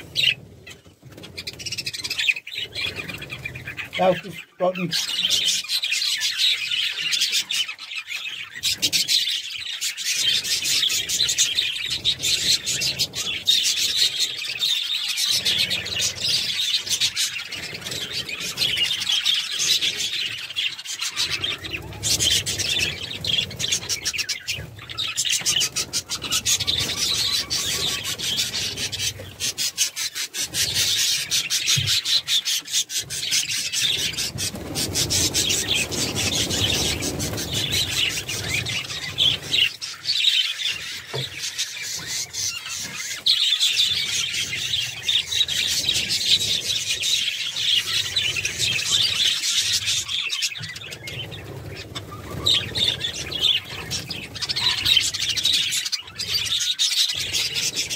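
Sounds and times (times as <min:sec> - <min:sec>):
budgerigars chattering: 0:00.0 - 0:57.9.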